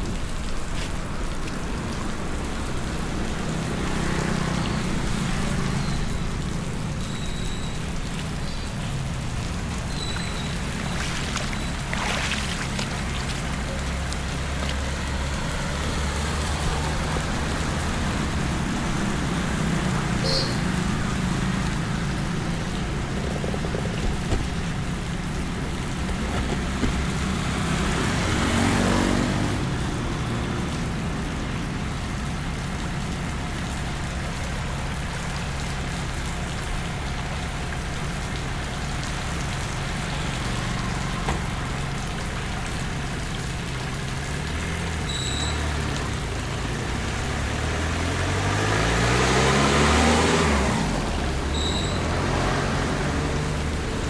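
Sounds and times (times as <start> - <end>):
low engine hum: 0.0 - 54.0
rain on wet road hissing: 0.0 - 54.0
vehicles passing: 0.0 - 54.0.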